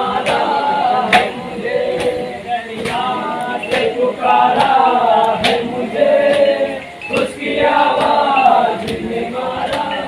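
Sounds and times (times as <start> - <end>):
men singing a lament in chorus: 0.0 - 10.0
sharp rhythmic strikes: 0.0 - 10.0.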